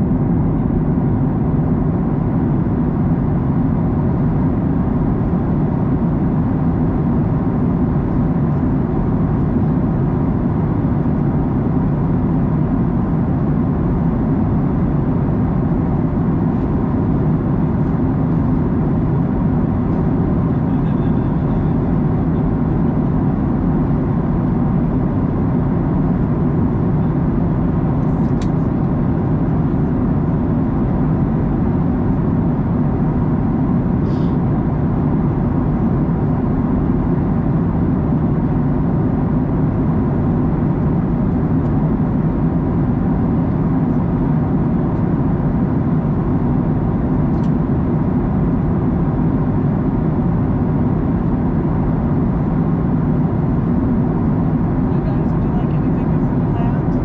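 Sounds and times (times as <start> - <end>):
airplane cabin roar: 0.0 - 57.0.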